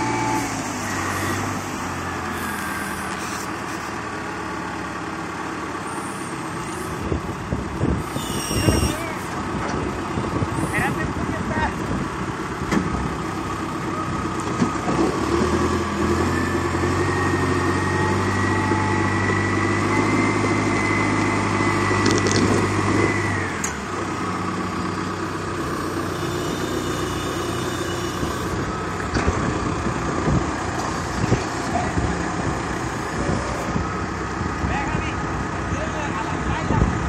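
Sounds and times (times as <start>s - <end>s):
forklift engine whining: 0.0s - 37.0s.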